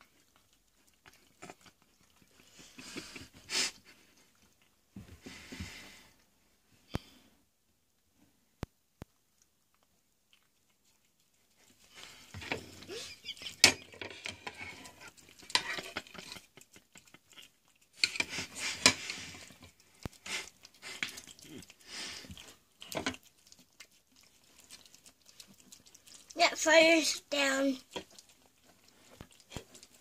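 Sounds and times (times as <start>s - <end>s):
cat licking and chewing: 0.0s - 6.3s, 9.0s - 30.0s.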